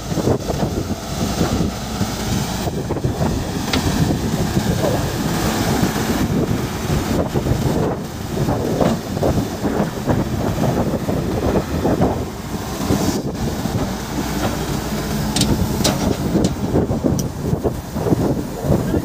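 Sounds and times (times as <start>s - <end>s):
excavator diesel engine under load: 0.0s - 19.0s
wind buffeting microphone: 0.0s - 19.0s.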